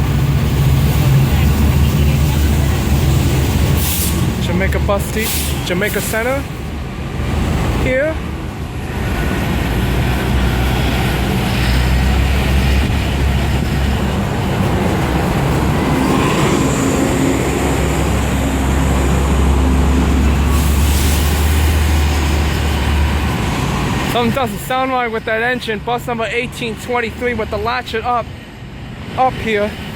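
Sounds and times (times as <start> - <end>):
bus engine droning: 0.0 - 29.9.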